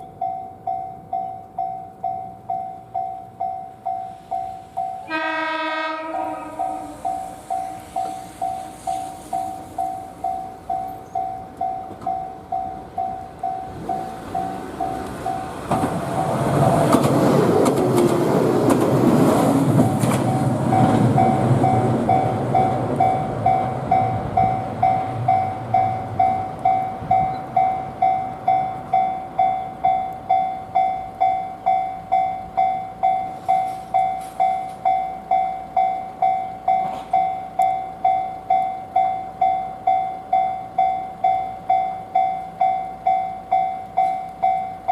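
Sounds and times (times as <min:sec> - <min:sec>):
level crossing warning bell dinging: 0:00.0 - 0:16.8, 0:19.8 - 0:44.9.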